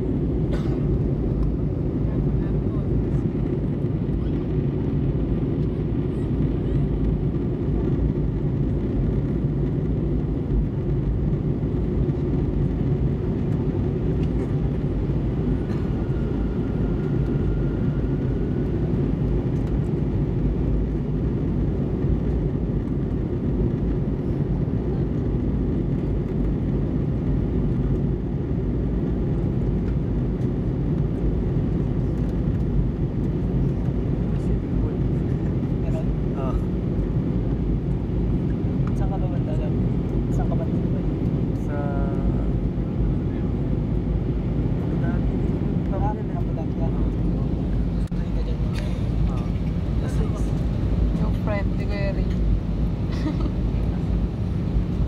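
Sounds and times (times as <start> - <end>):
jet airliner cabin rumble: 0.0 - 55.0.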